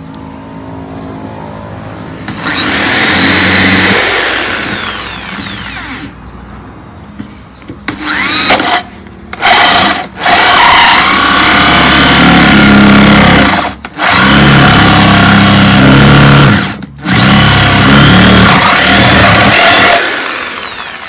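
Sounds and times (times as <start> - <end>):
electric drill boring into bamboo: 2.3 - 6.1, 7.9 - 21.0.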